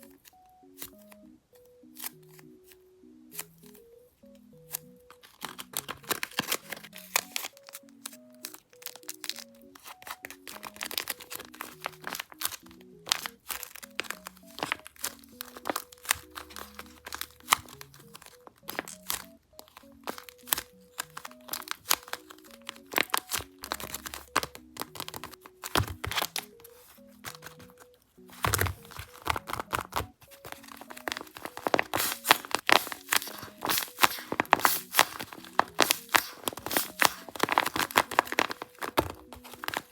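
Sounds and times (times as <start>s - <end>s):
paper crinkling and crackling: 0.0s - 39.9s
soft background music: 0.0s - 39.9s.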